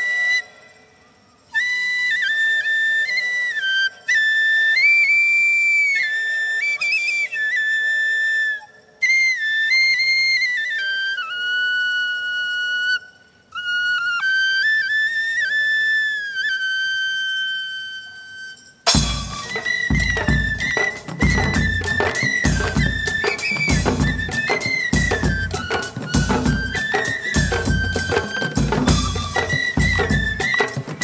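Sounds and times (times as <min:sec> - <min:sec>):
solo flute melody: 0:00.0 - 0:31.0.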